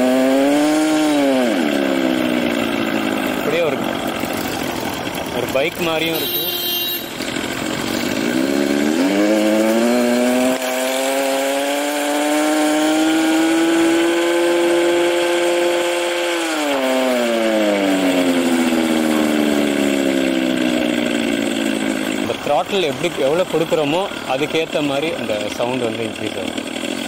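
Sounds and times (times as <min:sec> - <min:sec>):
artificial scooter engine sound: 0:00.0 - 0:27.0.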